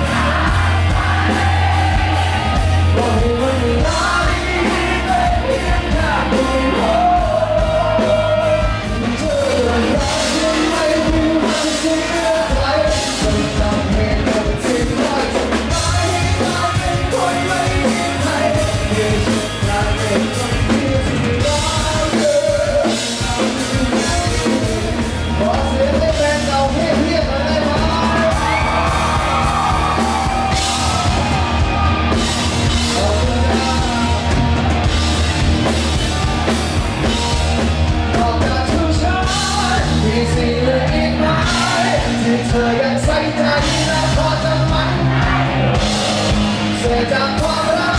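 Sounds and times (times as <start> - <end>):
man singing: 0.0 - 31.4, 32.7 - 34.6, 36.1 - 47.9
drum kit: 0.0 - 47.9
electric guitars: 0.0 - 47.9.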